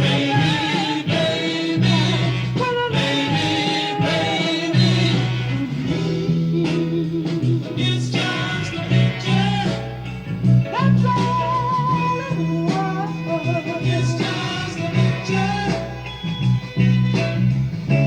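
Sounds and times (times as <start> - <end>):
person singing: 0.0 - 16.0
soul band with bass line: 0.0 - 18.0.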